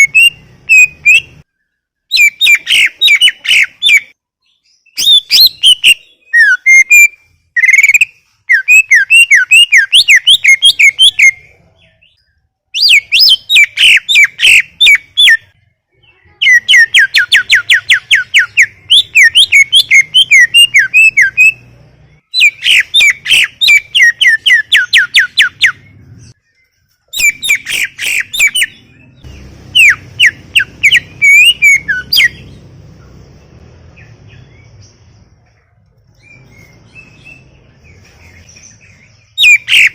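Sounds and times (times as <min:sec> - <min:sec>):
bird chirping and whistling: 0:00.0 - 0:01.5, 0:02.1 - 0:15.5, 0:16.4 - 0:35.1, 0:36.2 - 0:39.9.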